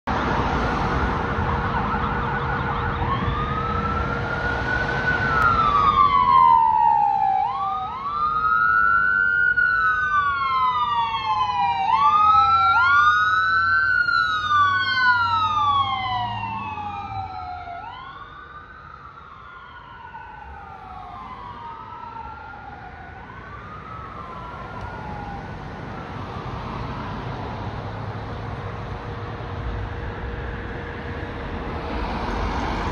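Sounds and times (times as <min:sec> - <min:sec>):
ambulance siren yelp and wail: 0:00.1 - 0:32.9
vehicle engine rumbling: 0:00.1 - 0:32.9.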